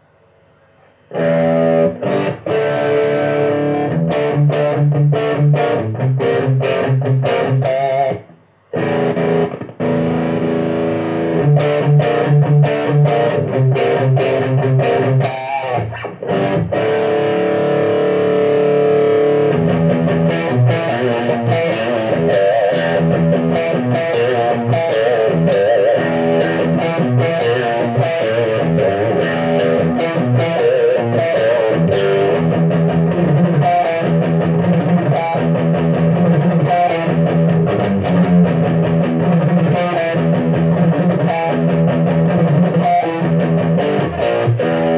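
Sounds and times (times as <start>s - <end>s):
electric guitar playing: 1.1s - 44.9s.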